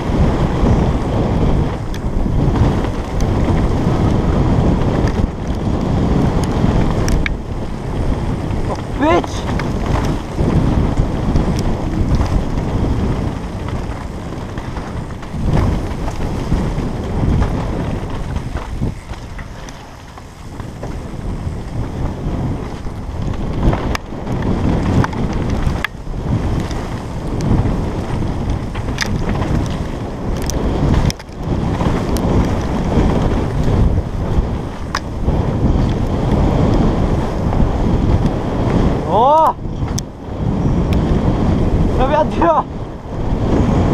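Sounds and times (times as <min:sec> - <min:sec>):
bike knocks and rattles: 0:00.0 - 0:40.1
bike tyre rumble: 0:00.0 - 0:43.9
wind buffeting microphone: 0:00.0 - 0:43.9.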